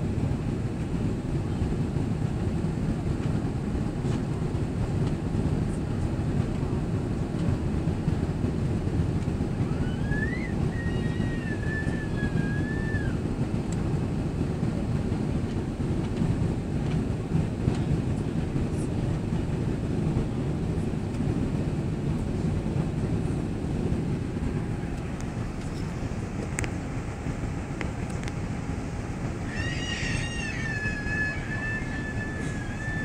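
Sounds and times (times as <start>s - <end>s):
jet engine and airflow rumble: 0.0s - 33.0s.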